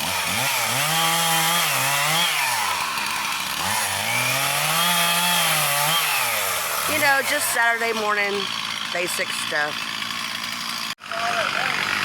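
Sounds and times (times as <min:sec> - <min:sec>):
chainsaw revving and cutting: 0:00.0 - 0:12.0.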